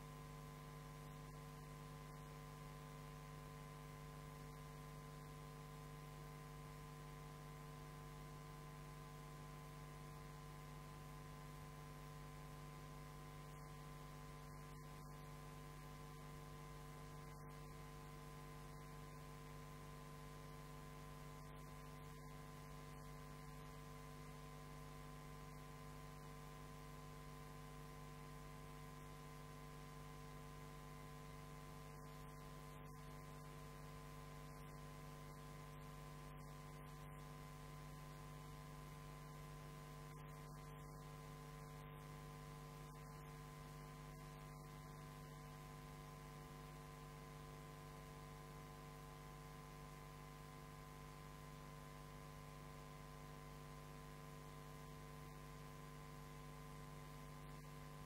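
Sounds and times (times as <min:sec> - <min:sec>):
electrical hum: 0:00.0 - 0:58.0.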